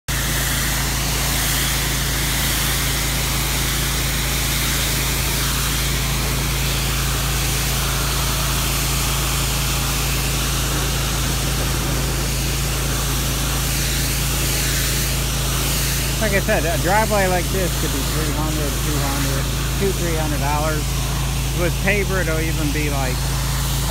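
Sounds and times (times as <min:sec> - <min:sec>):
engine and pump drone: 0:00.1 - 0:23.9
pressure washer jet hissing on pavement: 0:00.1 - 0:23.9.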